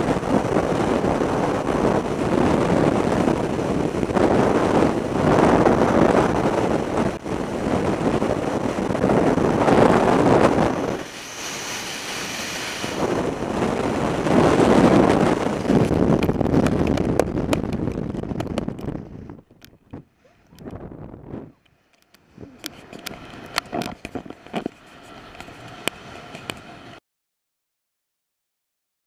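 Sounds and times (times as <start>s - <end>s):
wind blasting over microphone: 0.0s - 27.0s.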